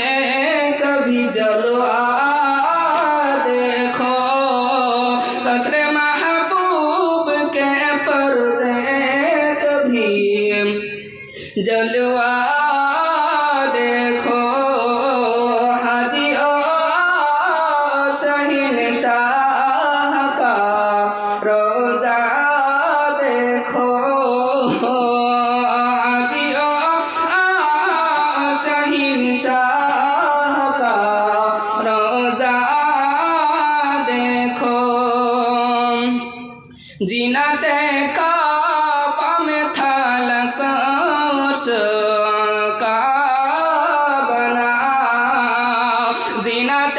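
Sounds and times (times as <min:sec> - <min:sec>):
man singing a devotional song: 0:00.0 - 0:46.9.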